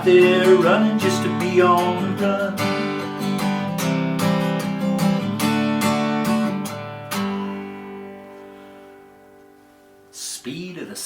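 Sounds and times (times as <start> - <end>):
acoustic guitar strumming: 0.0 - 10.8.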